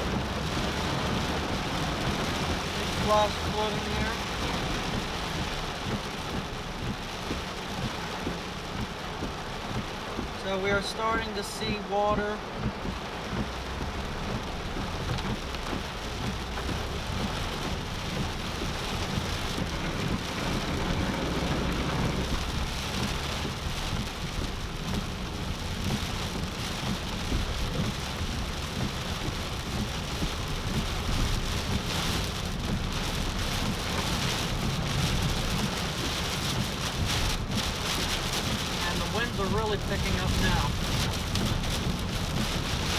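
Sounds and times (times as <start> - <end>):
heavy rain on a car: 0.0 - 42.9
low road rumble: 0.0 - 42.9.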